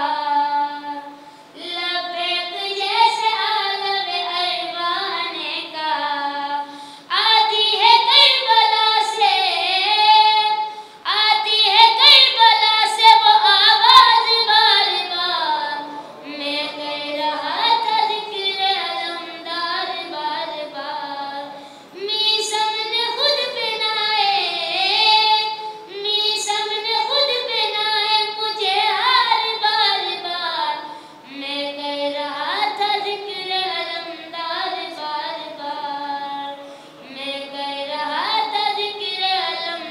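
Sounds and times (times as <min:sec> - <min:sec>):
boy singing into a microphone: 0:00.0 - 0:39.9.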